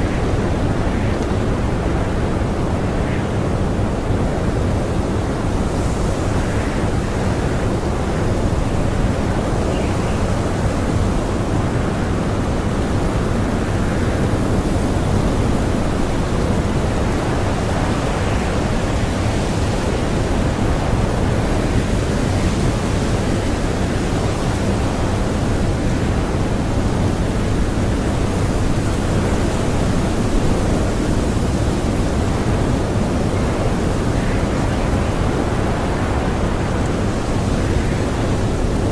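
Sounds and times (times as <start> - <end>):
blizzard wind blowing: 0.0 - 38.9.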